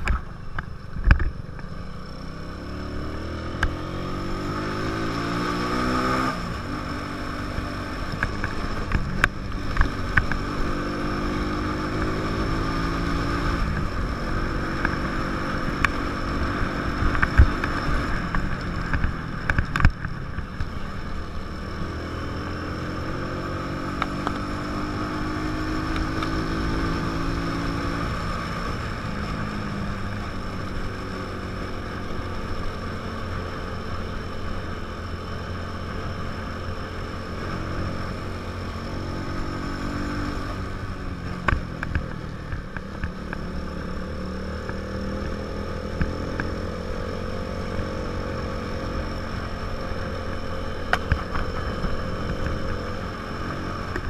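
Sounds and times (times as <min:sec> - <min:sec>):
small motorcycle engine climbing: 0:00.0 - 0:54.0.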